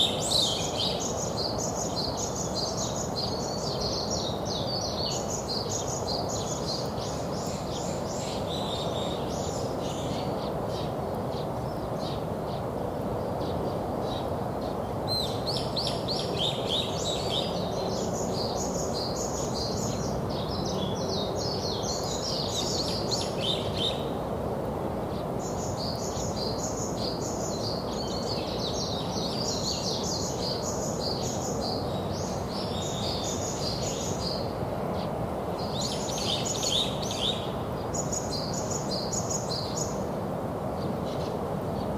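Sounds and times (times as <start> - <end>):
songbirds chirping: 0.0 - 41.9
steady background noise: 0.0 - 41.9.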